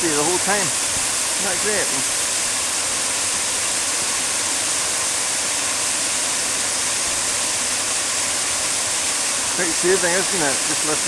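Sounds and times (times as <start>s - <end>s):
water rushing through dam: 0.0s - 11.0s.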